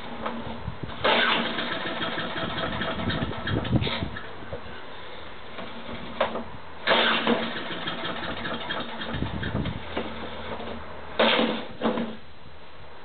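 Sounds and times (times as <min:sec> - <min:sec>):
lawn mower engine turning over: 0:00.0 - 0:04.4, 0:05.5 - 0:12.2.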